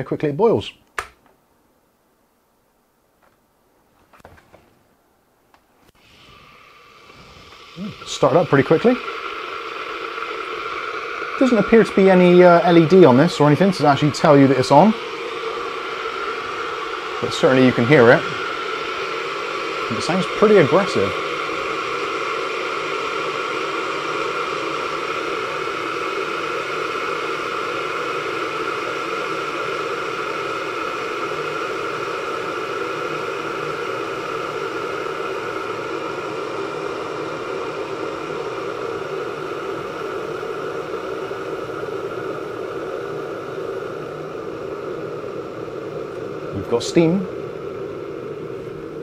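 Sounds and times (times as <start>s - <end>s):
kettle water heating hiss: 0.0s - 49.0s.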